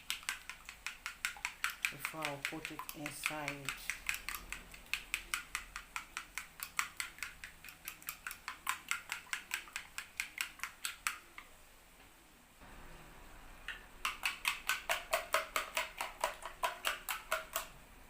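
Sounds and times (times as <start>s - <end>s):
utensil clicking against bowl: 0.0s - 11.5s, 13.7s - 17.7s.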